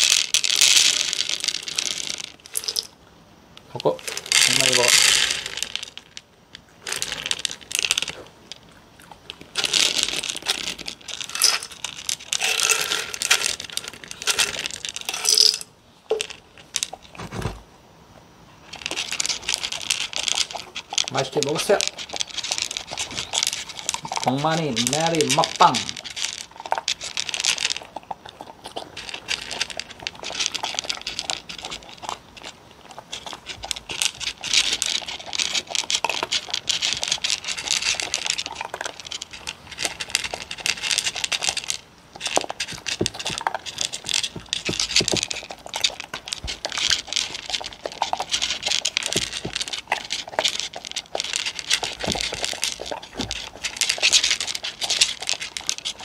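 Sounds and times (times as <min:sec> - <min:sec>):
dogs crunching dry kibble: 0:00.0 - 0:03.0, 0:03.6 - 0:17.7, 0:18.6 - 0:56.0.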